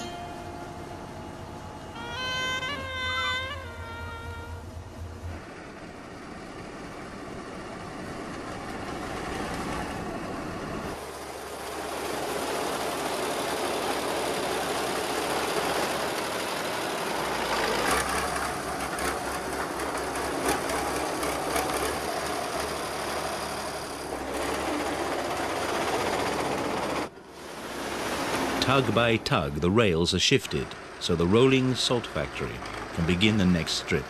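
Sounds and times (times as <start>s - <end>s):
crawler tractor engine under load: 0.0s - 34.0s.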